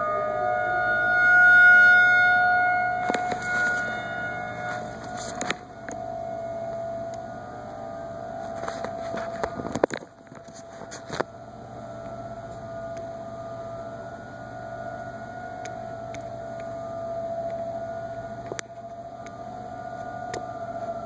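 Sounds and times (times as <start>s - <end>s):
warning siren steady tone: 0.0s - 21.0s.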